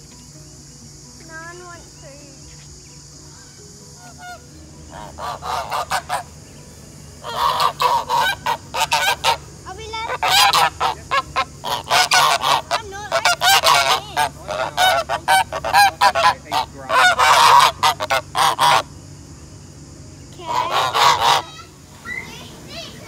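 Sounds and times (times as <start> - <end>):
geese honking: 1.6 - 23.0.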